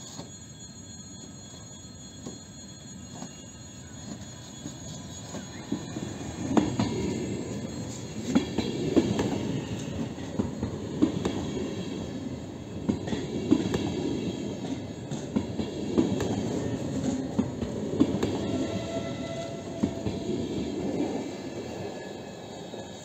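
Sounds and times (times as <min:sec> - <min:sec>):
train wheels rumbling on rail: 0:03.1 - 0:23.0.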